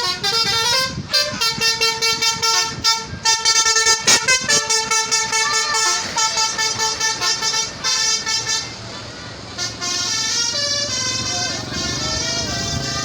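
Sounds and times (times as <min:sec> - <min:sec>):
bus musical horn melody: 0:00.0 - 0:13.0.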